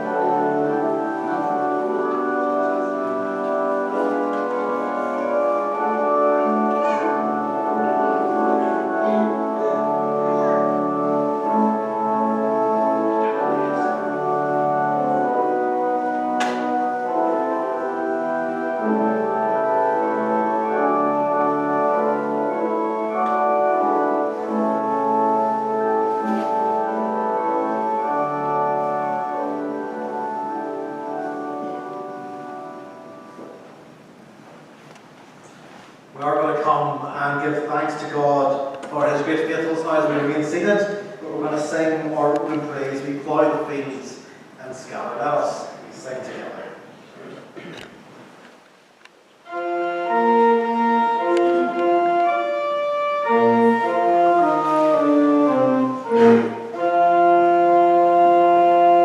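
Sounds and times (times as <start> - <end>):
organ chords: 0.0 - 34.8, 36.0 - 47.0, 49.4 - 59.0.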